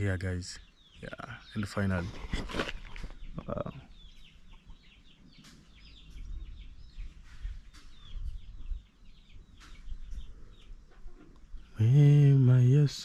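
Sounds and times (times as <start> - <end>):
chicks peeping: 0.2 - 13.0.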